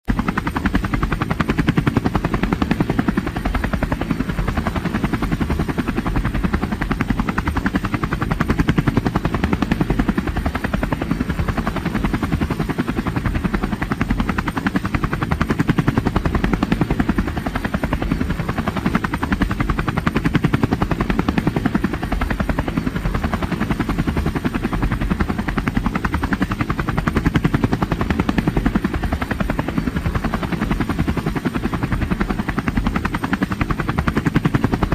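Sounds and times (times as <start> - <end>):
helicopter rotor chopping: 0.0 - 34.9.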